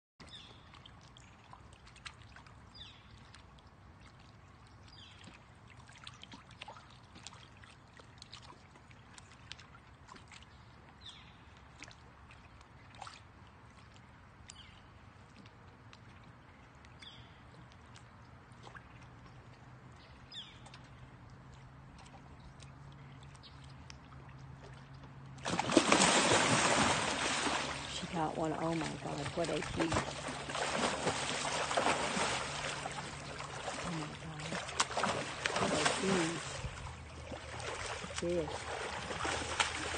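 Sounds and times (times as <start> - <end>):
water sloshing and splashing: 0.2 - 39.9.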